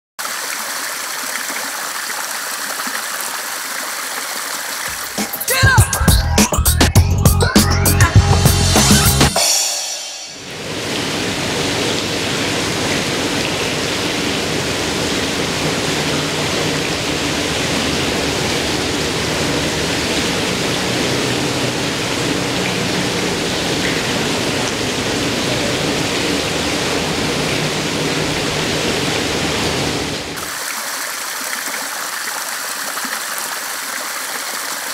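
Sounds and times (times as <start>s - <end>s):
fountain water splashing into pool: 0.2s - 5.7s, 10.4s - 34.9s.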